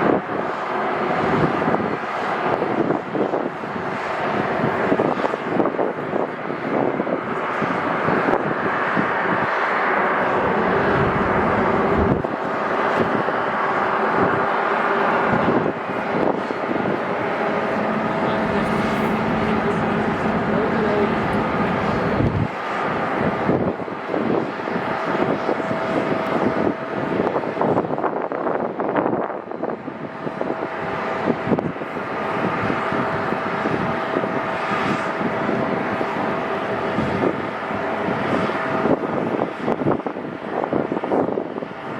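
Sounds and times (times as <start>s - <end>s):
jet airliner roaring past: 0.0s - 41.9s
wind buffeting microphone: 0.0s - 41.9s.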